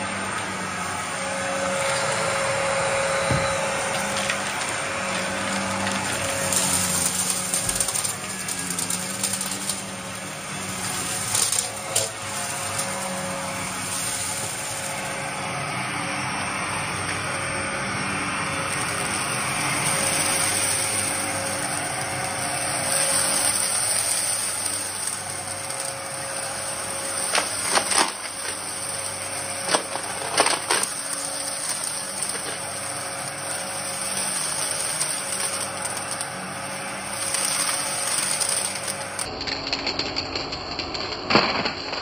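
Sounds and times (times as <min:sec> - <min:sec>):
debris crackling in vacuum: 0:00.0 - 0:42.0
vacuum cleaner running: 0:00.0 - 0:42.0.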